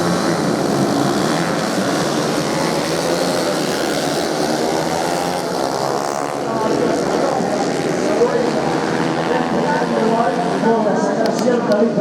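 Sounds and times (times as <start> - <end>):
motorcycle engines buzzing at high revs: 0.0 - 12.0.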